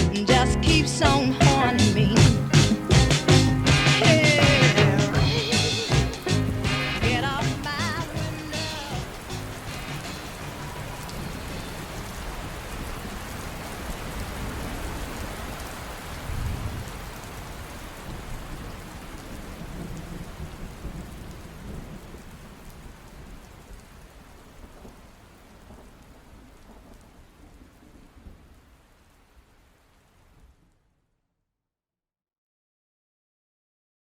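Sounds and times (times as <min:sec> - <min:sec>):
low thunder rumble: 0:00.6 - 0:28.6
steady rain hiss: 0:00.6 - 0:30.9.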